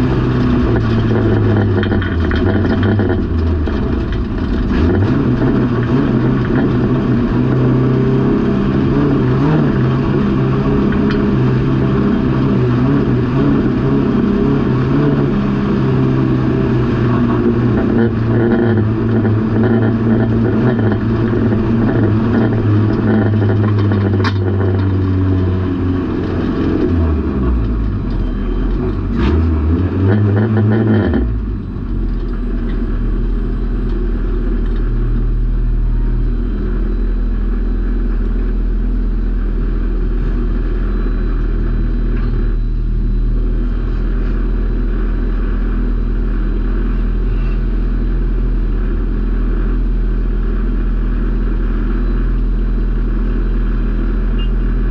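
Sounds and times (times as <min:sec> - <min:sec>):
race car engine: 0:00.0 - 0:54.9.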